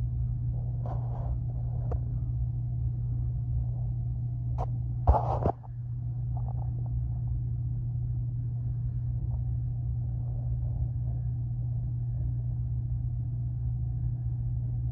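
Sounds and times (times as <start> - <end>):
deep hum: 0.0 - 14.9
low rumble: 0.0 - 14.9.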